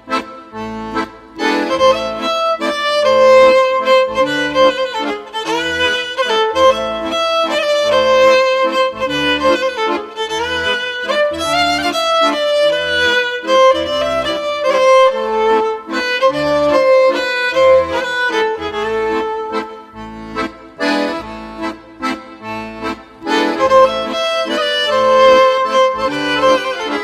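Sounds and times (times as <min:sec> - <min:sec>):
instrumental background music: 0:00.0 - 0:27.0.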